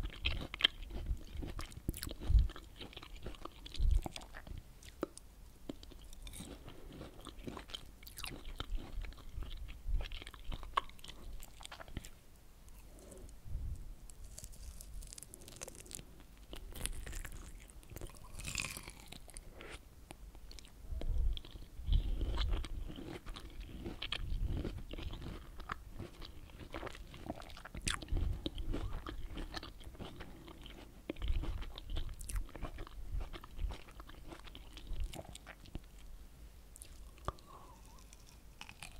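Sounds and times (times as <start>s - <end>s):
biting and chewing fruit: 0.0s - 13.4s, 14.1s - 19.8s, 20.5s - 36.1s, 36.8s - 38.9s.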